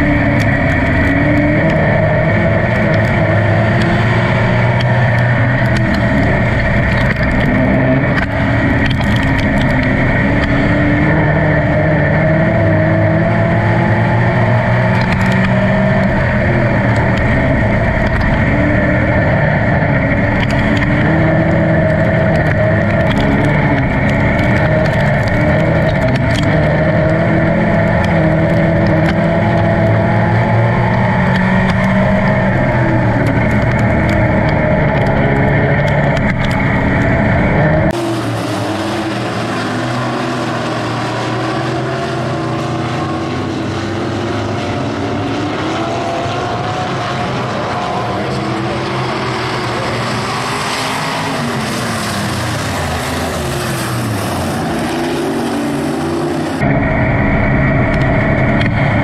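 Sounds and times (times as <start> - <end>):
race car engines circling: 0.0 - 59.0
truck race engine revving: 0.0 - 59.0.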